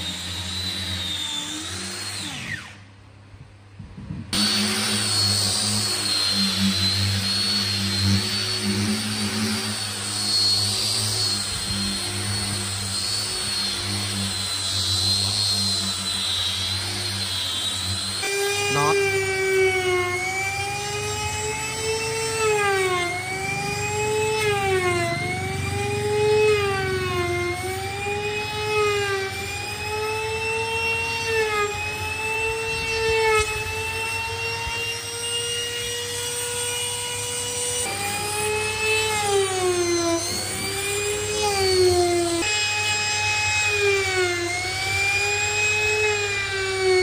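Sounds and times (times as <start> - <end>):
power sander motor whine: 0.0 - 2.9, 4.3 - 47.0.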